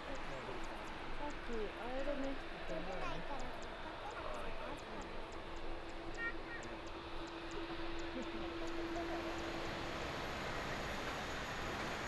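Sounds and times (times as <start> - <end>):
faint high ticks: 0.0 - 10.1
jet airliner engines roaring: 0.0 - 12.0.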